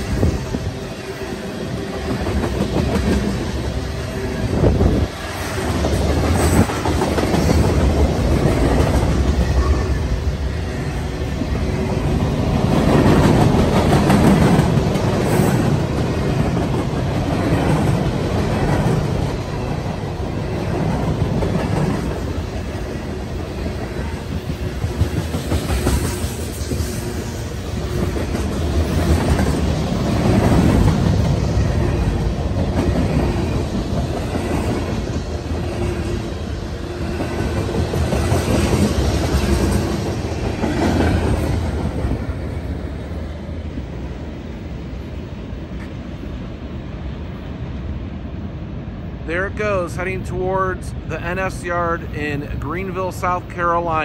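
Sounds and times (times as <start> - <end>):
freight train rumbling and rattling: 0.0 - 54.0.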